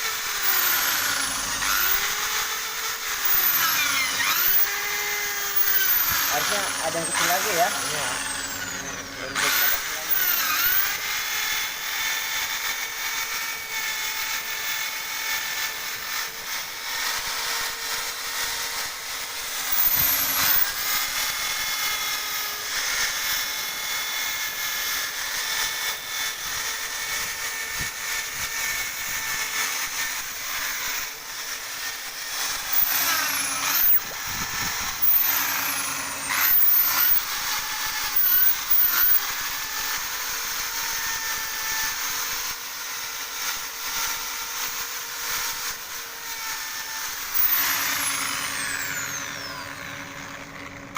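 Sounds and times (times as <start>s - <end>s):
electric drill motor whine: 0.0s - 50.9s.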